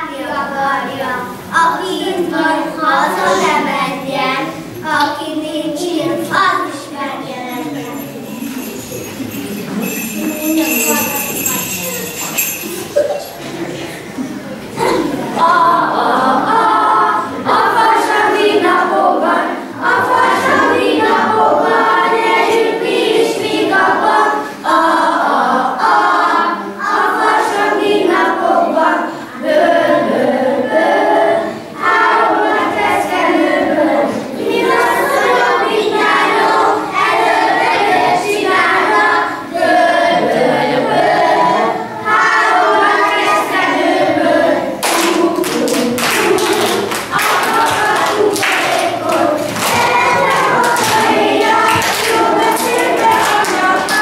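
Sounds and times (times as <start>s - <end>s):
children singing: 0.0s - 54.0s.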